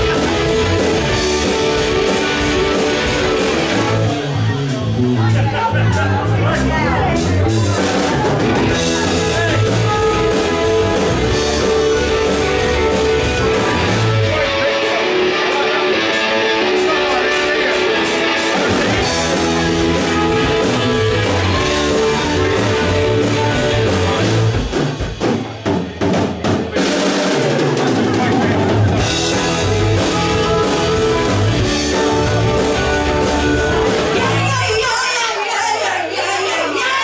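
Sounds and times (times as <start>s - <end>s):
rock band playing instrumental: 0.0s - 37.0s.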